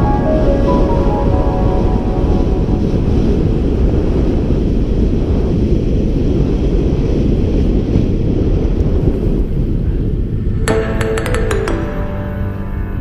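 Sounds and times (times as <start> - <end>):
wind roaring over microphone: 0.0 - 11.1.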